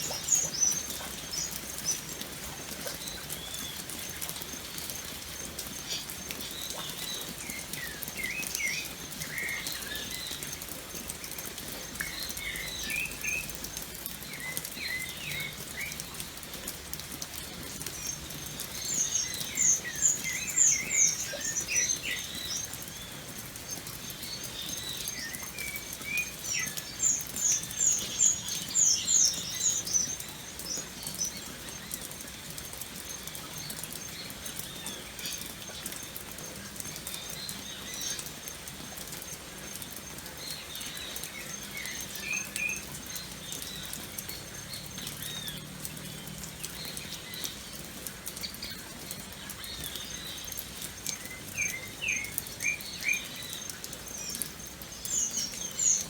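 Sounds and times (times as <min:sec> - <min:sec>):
birds chirping: 0:00.0 - 0:10.5, 0:17.8 - 0:56.0
rain patter: 0:00.0 - 0:56.0.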